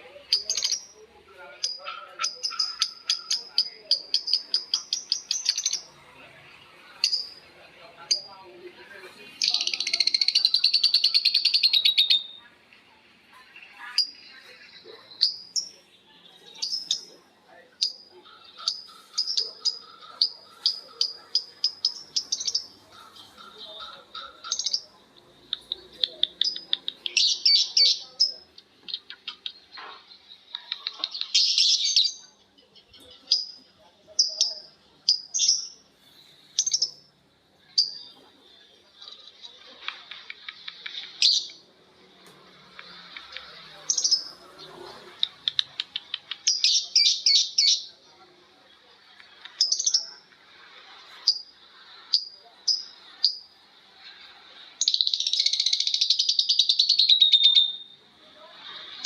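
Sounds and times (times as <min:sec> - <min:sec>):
birds chattering and calling: 0:00.0 - 0:59.0.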